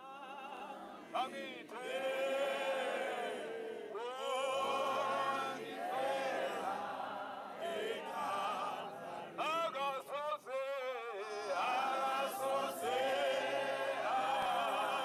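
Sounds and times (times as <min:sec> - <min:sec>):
men singing through a megaphone: 0:00.0 - 0:06.8, 0:07.7 - 0:15.0
women's choir singing: 0:00.0 - 0:09.7, 0:11.2 - 0:15.0.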